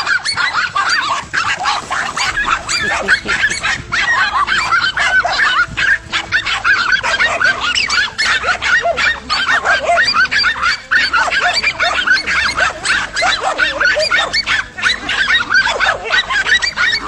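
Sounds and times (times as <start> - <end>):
dogs barking and yelping: 0.0 - 17.0.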